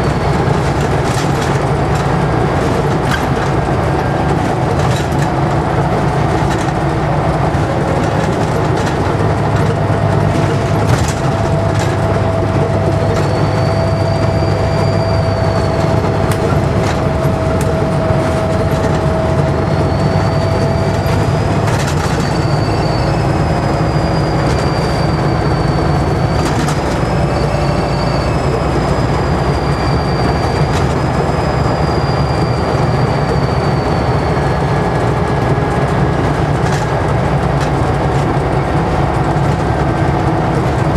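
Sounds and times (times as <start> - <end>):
bus body rattles: 0.0 - 40.9
bus engine drone: 0.0 - 40.9
turbocharger whistle: 0.0 - 40.9.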